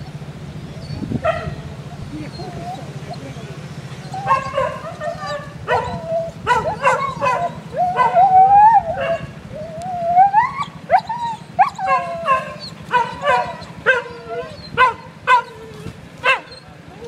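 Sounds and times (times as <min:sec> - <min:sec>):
dog yipping: 0:00.8 - 0:03.4, 0:04.0 - 0:16.8
dog whining: 0:00.8 - 0:17.0.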